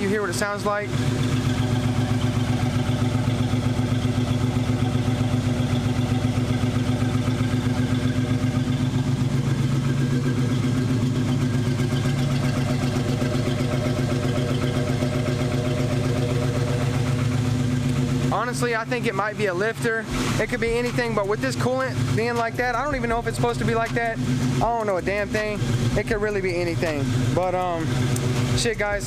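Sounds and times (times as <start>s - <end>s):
car engine idling: 0.0s - 29.0s
engine ticking: 0.0s - 29.0s.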